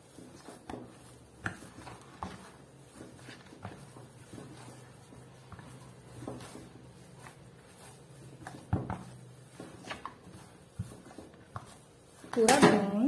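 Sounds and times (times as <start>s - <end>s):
hand kneading dough: 0.0s - 13.0s.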